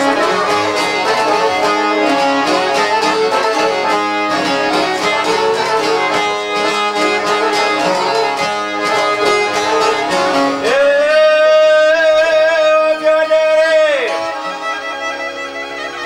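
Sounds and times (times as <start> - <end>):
instrumental folk ensemble music: 0.0 - 16.0.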